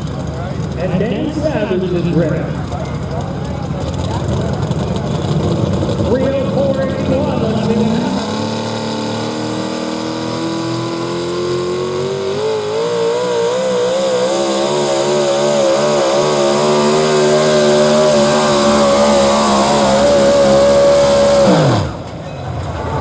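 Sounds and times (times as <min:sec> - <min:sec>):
truck engine at full throttle: 0:00.0 - 0:23.0.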